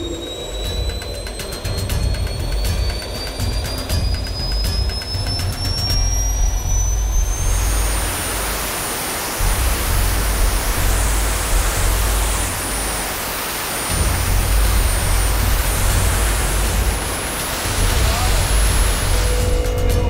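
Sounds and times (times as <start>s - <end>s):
high turbine whine: 0.0s - 20.0s
jet turbine exhaust rush: 0.0s - 20.0s.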